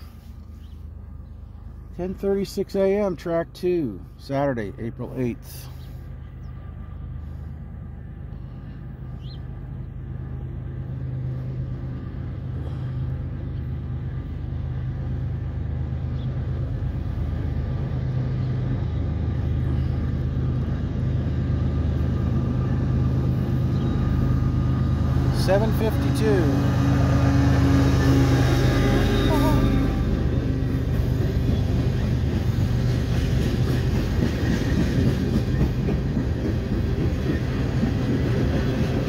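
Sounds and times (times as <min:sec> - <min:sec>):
locomotive diesel engine drone: 0:00.0 - 0:39.0.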